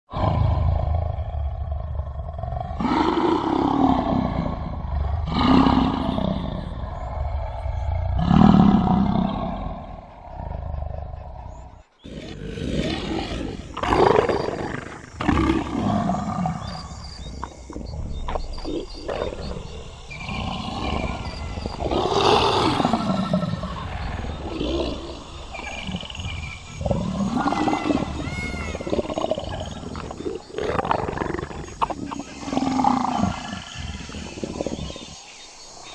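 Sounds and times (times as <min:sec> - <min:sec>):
tiger roaring and growling: 0:00.1 - 0:35.2.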